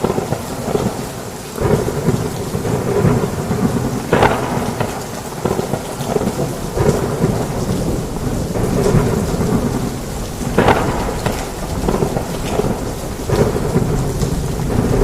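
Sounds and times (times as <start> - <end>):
heavy rain falling: 0.0 - 15.0
thunder rumbling: 0.0 - 15.0
sharp thunder cracks: 1.6 - 15.0.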